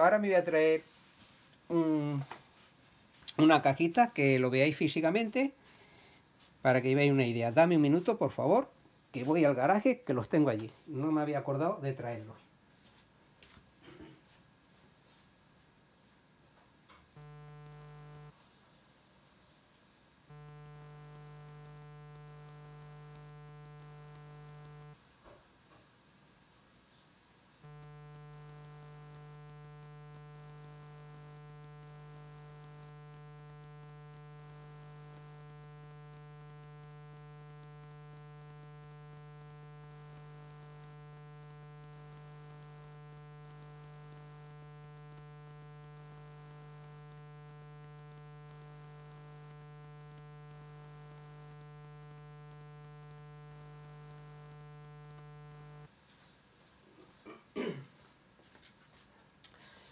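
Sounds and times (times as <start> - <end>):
buzzy electrical hum: 0.0 - 56.8.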